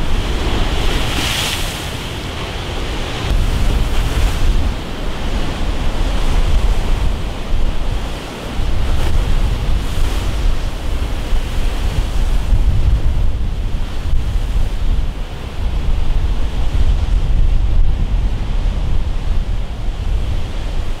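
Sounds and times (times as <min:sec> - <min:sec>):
surf breaking along a seawall: 0:00.0 - 0:21.0
wind buffeting microphone: 0:00.0 - 0:21.0.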